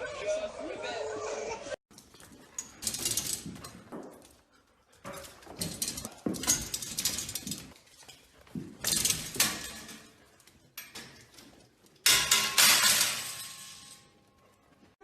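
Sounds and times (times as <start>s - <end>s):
hard objects clattering and clinking: 1.9s - 15.0s.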